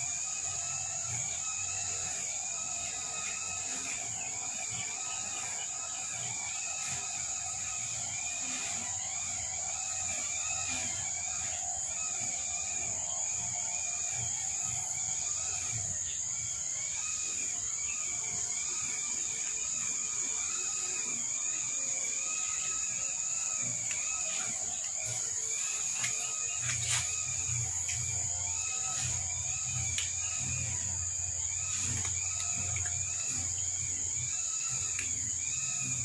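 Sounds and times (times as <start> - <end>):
insect drone: 0.0 - 36.0.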